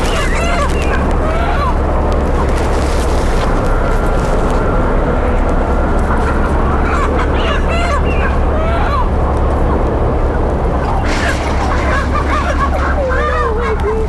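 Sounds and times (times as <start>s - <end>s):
hens clucking and squawking: 0.0s - 14.0s
steady low rumble: 0.0s - 14.0s.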